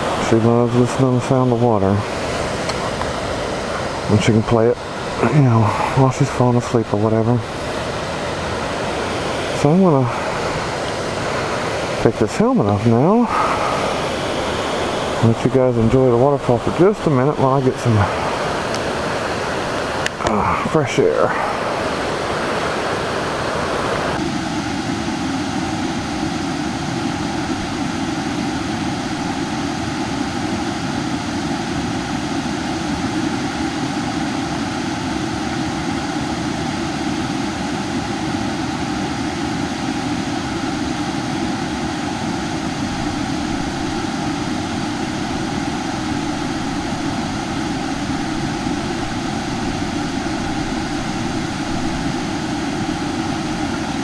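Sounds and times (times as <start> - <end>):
small waterfall rushing: 0.0 - 54.0.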